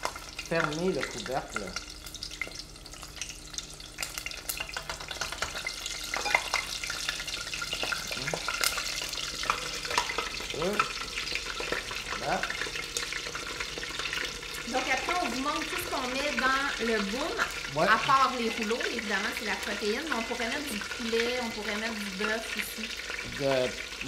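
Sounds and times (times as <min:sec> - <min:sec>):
spring rolls deep-frying in oil: 0:00.0 - 0:24.0.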